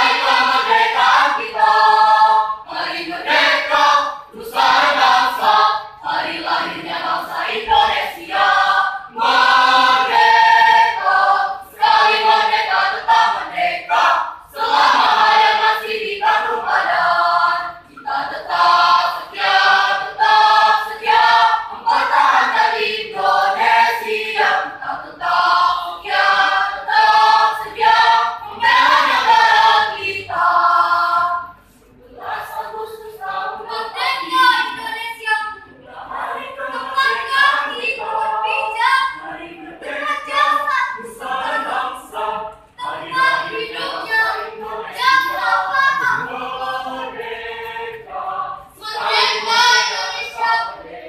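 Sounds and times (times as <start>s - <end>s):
mixed choir singing: 0.0s - 51.0s.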